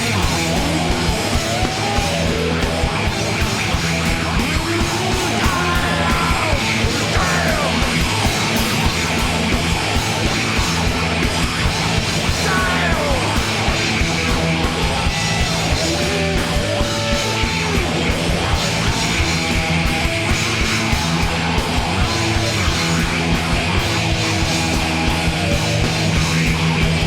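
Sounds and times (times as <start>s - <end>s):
rock band playing distorted: 0.0s - 27.0s.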